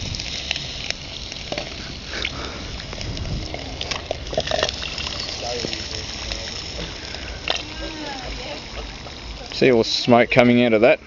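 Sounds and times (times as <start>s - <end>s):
crackles and pops: 0.0s - 10.6s
water sizzling on hot motor: 0.0s - 11.0s.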